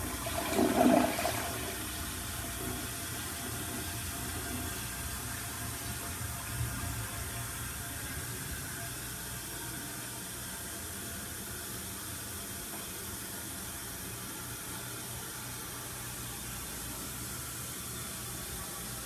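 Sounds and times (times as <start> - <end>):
toilet refilling with water: 0.0 - 19.0.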